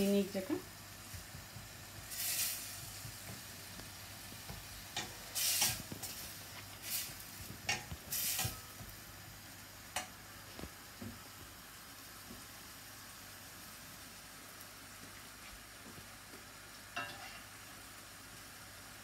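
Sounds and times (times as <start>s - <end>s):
masala sizzling: 0.0s - 19.0s.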